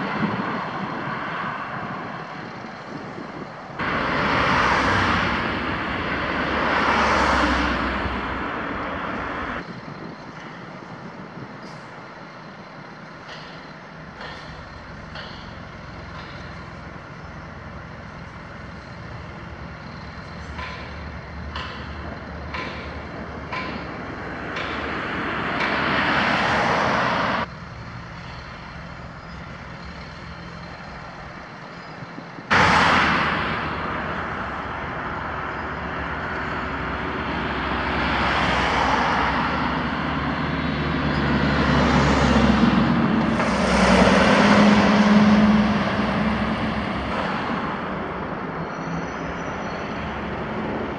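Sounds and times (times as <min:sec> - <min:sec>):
vehicles driving past: 0:00.0 - 0:50.9.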